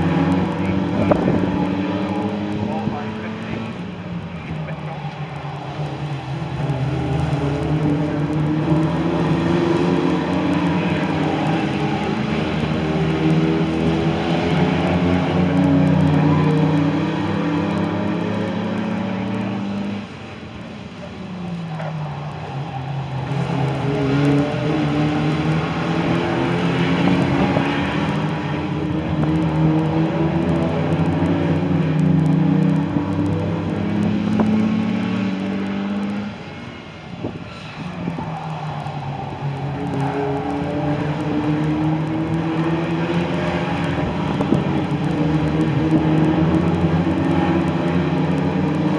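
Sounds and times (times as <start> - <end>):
racing car engines: 0.0 - 48.9.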